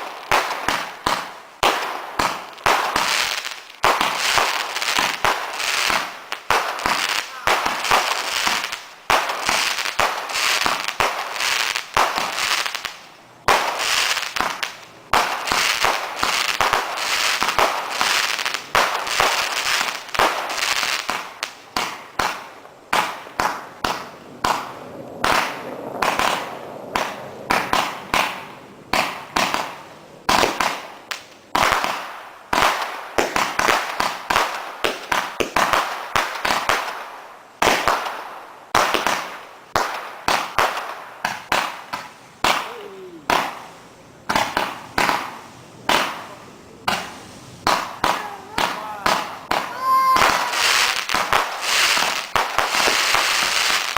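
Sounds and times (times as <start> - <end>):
firework bangs and crackles: 0.0 - 53.9.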